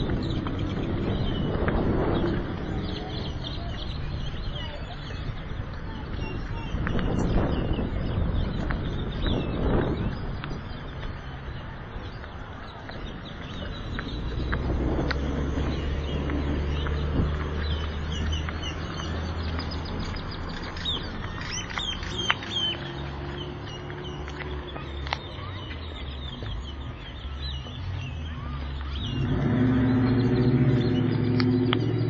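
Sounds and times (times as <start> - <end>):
small birds chirping: 0.0 - 32.0
steady traffic hum: 0.0 - 32.0
vehicle engine: 0.0 - 32.0.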